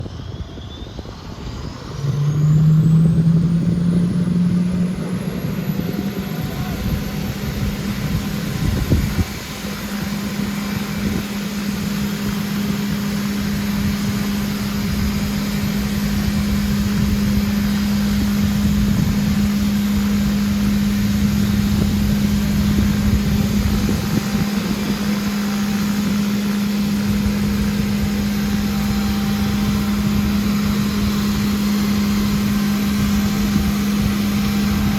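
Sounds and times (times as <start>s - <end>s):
constant low hum: 0.0s - 34.9s
jet engines whining: 0.0s - 34.9s.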